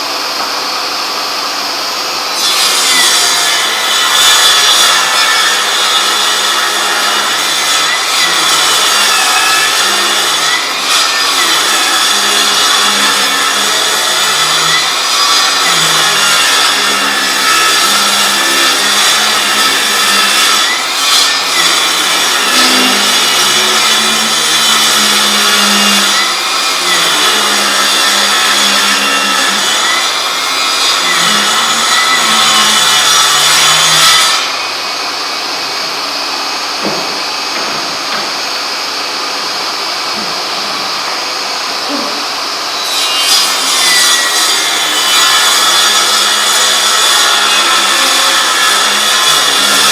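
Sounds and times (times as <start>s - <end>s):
table saw cutting wood: 0.0s - 49.9s.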